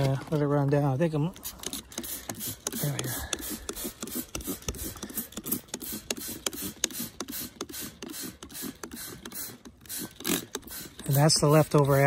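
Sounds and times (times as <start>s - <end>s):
spray bottle squirting: 1.3s - 12.0s.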